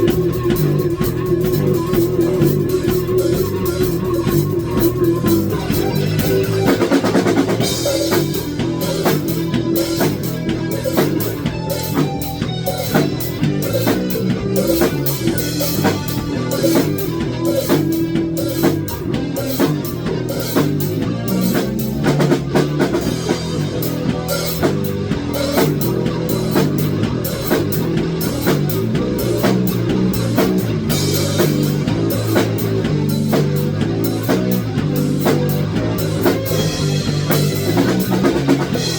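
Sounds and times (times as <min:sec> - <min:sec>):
rock music with drums and guitar: 0:00.0 - 0:38.9.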